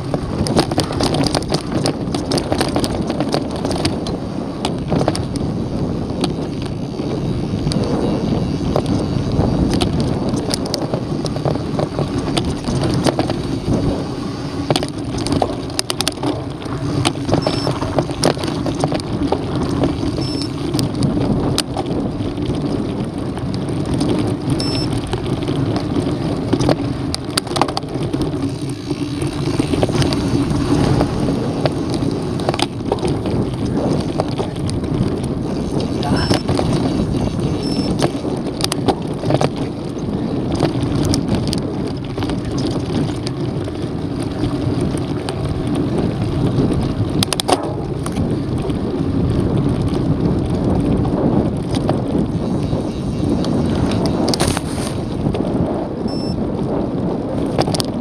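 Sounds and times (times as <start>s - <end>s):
bike clicking and rattling: 0.0s - 58.0s
tyres rolling on dirt and stones: 0.0s - 58.0s
wind on microphone: 0.0s - 58.0s.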